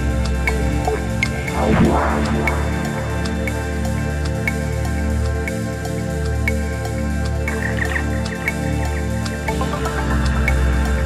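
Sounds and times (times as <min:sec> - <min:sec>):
calm new-age music: 0:00.0 - 0:11.0.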